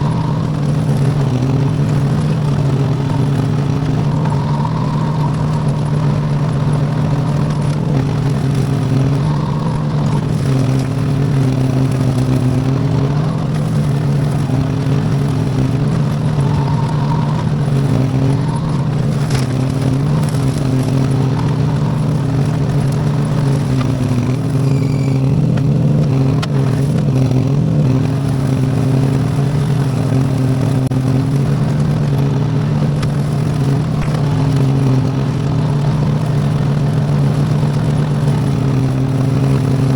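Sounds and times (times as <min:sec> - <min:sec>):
rotary cutter mowing: 0:00.0 - 0:39.9
tractor engine running: 0:00.0 - 0:39.9.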